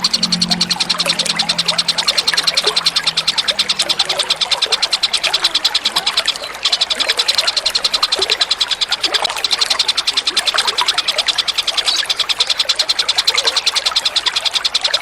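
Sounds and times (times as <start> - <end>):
songbird high-pitched trill: 0.0 - 15.0.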